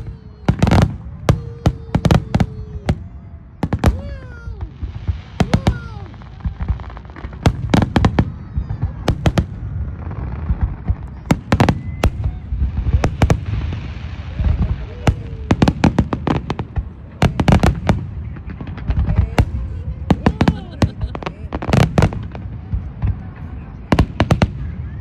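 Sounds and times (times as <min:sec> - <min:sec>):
fireworks banging: 0:00.0 - 0:25.0
fireworks crackling: 0:00.0 - 0:25.0.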